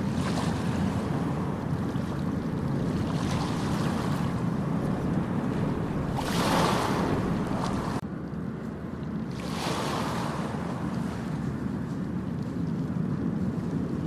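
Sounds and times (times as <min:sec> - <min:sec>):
ocean waves washing onto beach: 0:00.0 - 0:14.0
wind rumble on microphone: 0:00.0 - 0:14.0.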